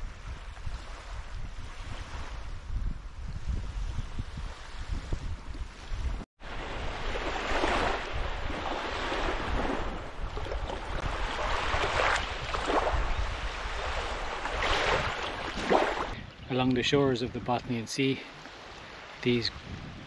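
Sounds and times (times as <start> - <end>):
waves lapping on sandy shore: 0.0 - 2.7, 3.5 - 16.2, 18.3 - 20.0
wind buffeting microphone: 0.0 - 17.8, 18.9 - 20.0.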